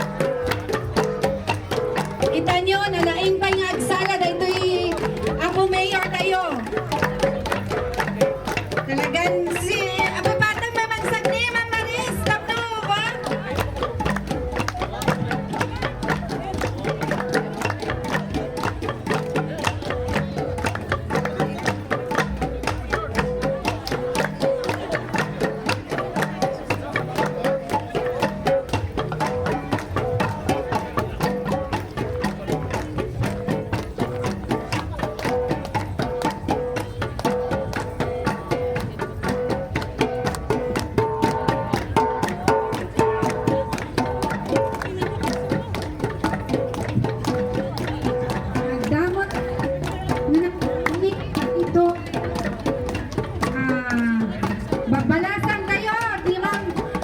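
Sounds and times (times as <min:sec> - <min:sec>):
flat gongs struck rhythmically: 0:00.0 - 0:57.0
voices: 0:00.0 - 0:57.0.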